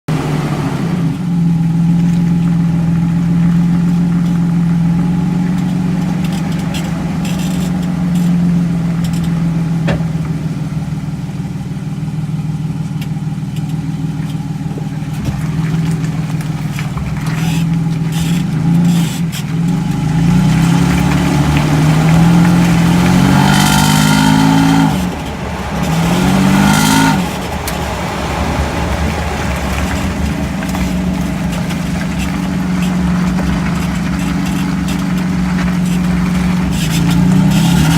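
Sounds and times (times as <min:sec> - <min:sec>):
engine revving: 0:00.0 - 0:37.9
truck engine hum: 0:00.0 - 0:37.9.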